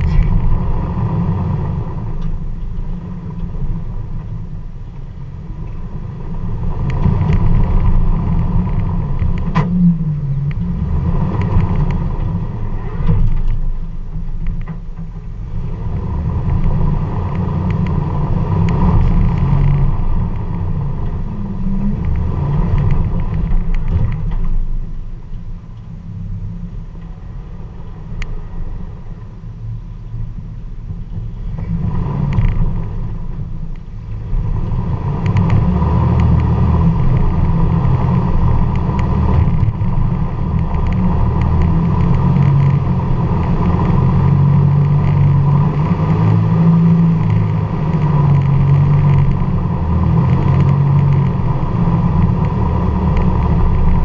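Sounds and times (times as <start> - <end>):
engine rumbling at low revs: 0.0 - 54.0.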